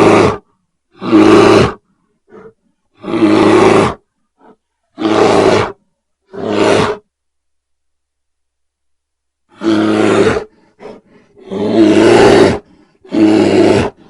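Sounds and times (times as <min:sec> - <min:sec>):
bear roaring: 0:00.0 - 0:07.1, 0:09.5 - 0:14.0.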